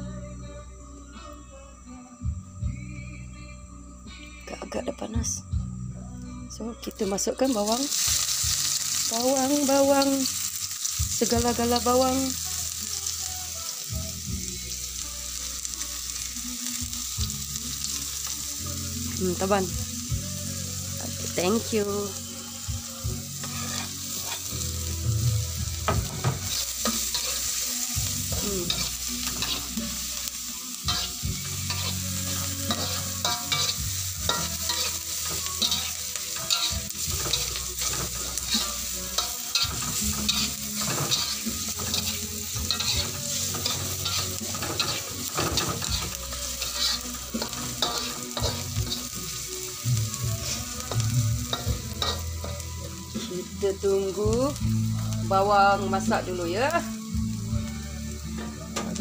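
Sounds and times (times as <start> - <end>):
onions sizzling in hot oil: 6.9 - 59.0.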